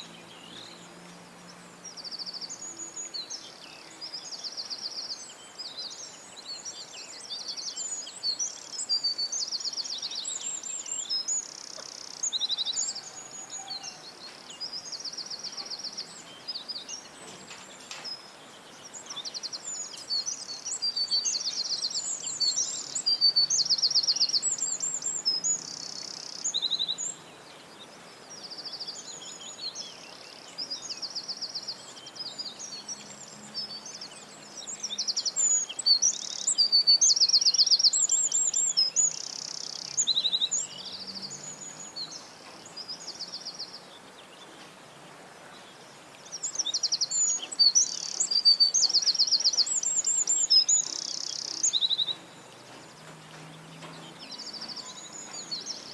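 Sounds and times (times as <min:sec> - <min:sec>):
songbird trilling and chirping: 0:00.0 - 0:55.9.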